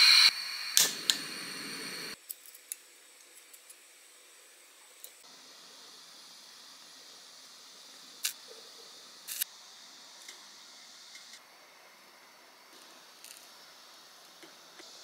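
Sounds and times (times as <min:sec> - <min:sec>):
gas stove burner hissing: 0:00.0 - 0:02.2, 0:05.1 - 0:15.0.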